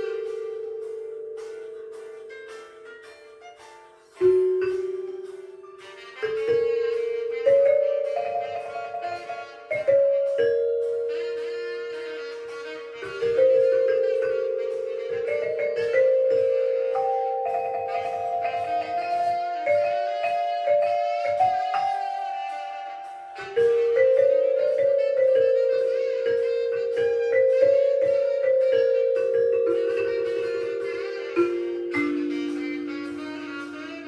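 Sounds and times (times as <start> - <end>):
bell-like percussion melody: 0.0 - 34.0.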